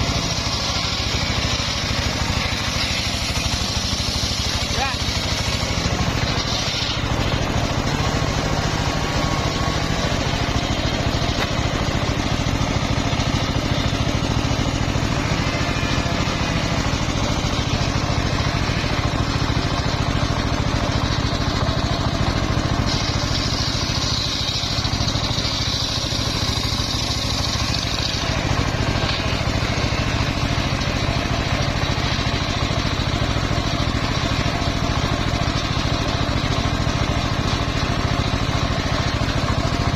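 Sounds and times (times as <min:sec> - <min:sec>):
saw blade whine cutting wood: 0:00.0 - 0:39.9
sawmill engine under load: 0:00.0 - 0:39.9.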